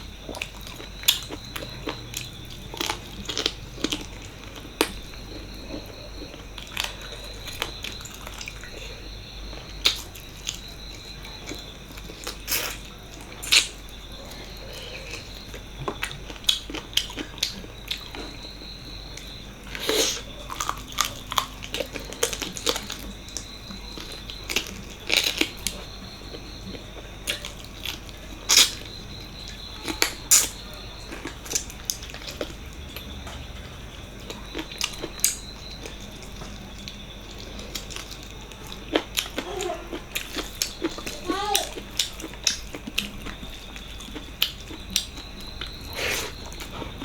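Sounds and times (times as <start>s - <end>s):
wet chewing and smacking: 0.0s - 47.0s.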